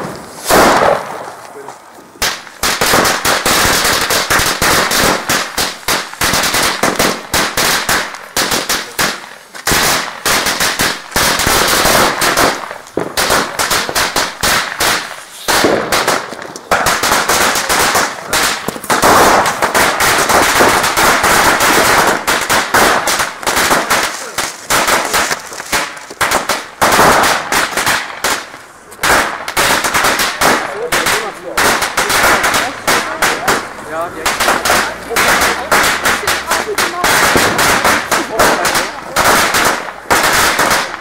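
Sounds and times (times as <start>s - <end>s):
firecrackers banging: 0.0s - 41.0s.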